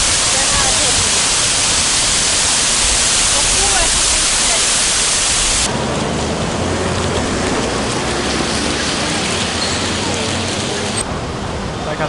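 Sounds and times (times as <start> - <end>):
low traffic hum: 0.0 - 12.0
water rushing down cascades: 0.0 - 12.0.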